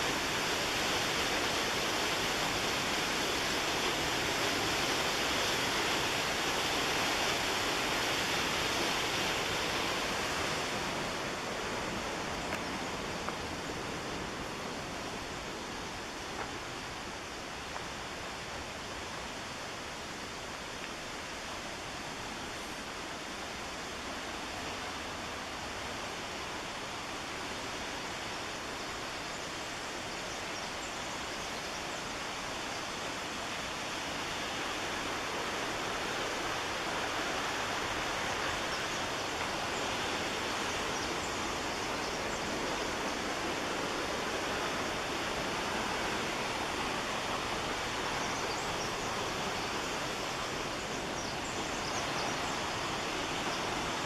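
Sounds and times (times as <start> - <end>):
whitewater rushing: 0.0 - 31.4, 32.0 - 54.0.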